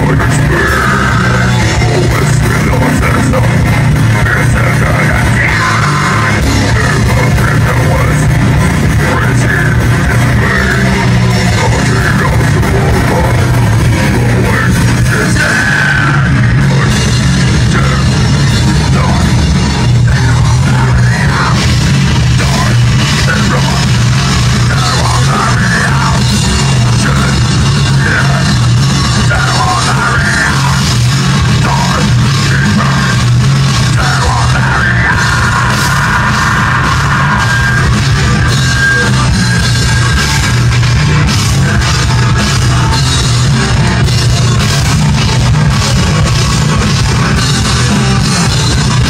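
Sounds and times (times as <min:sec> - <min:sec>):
bass guitar: 0:00.0 - 0:49.0
distorted electric guitar: 0:00.0 - 0:49.0
pounding drum kit: 0:00.0 - 0:49.0.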